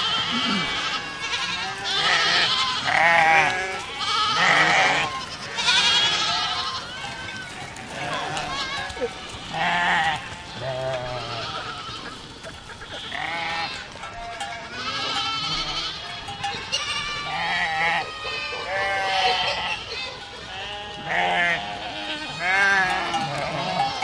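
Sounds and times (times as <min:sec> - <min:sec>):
goats bleating: 0:00.0 - 0:24.0.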